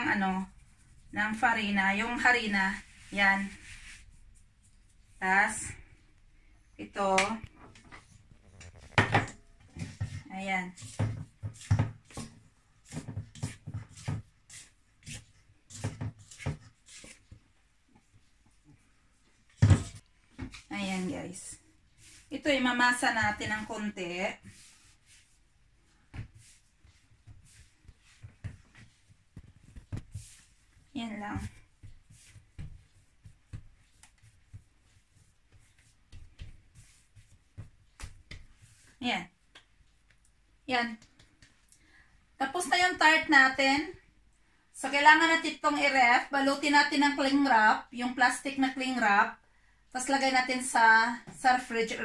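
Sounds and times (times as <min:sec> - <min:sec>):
hands kneading dough: 0:00.0 - 0:41.9.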